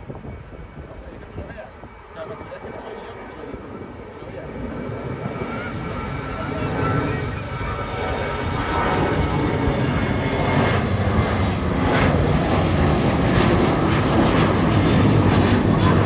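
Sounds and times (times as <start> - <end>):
airliner engine roar: 0.0 - 16.0.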